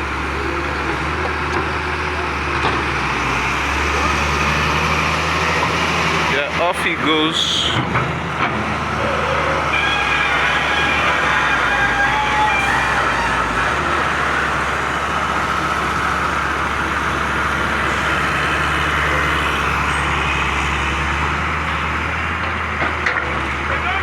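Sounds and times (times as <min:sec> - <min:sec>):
heavy truck diesel engine: 0:00.0 - 0:24.0.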